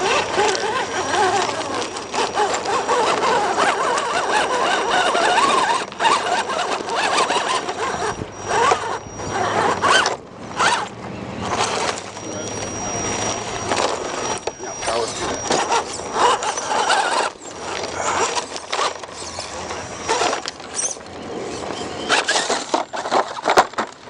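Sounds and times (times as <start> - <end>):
rc car motor and gears whining: 0.0 - 24.0.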